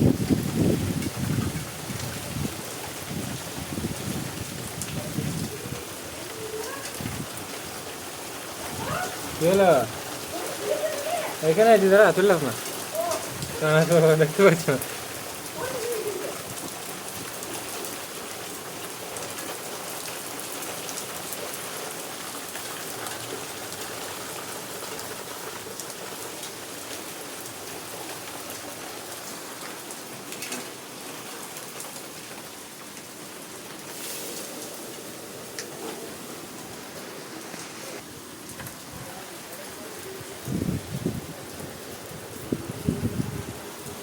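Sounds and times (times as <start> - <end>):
rain pattering on surfaces: 0.0 - 44.0.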